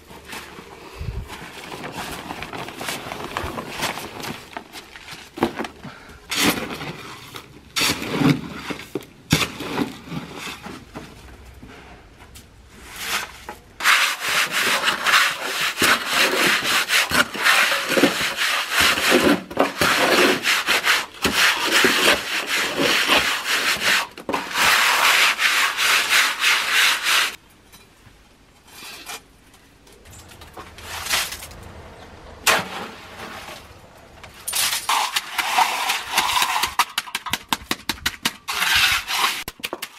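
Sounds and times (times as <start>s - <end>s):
shovel scraping gravel and concrete: 0.0s - 27.9s, 28.6s - 31.8s, 32.4s - 39.9s.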